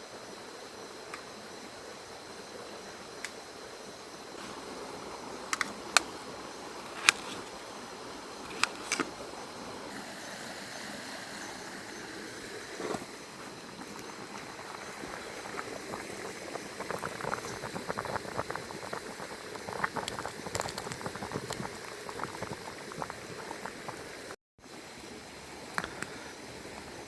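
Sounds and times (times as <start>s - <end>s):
soup bubbling in a pot: 4.4s - 27.0s.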